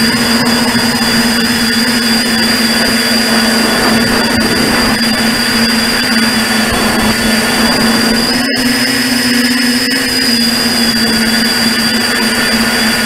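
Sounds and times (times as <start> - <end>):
drone motors and propellers humming: 0.0 - 13.0.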